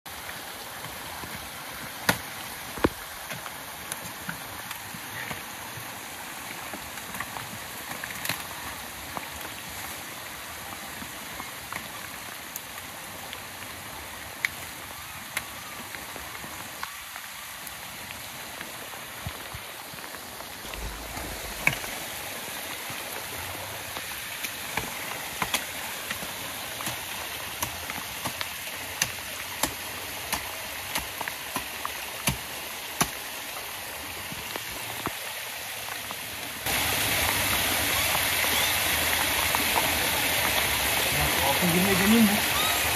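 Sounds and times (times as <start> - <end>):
rain hissing: 0.1 - 42.9.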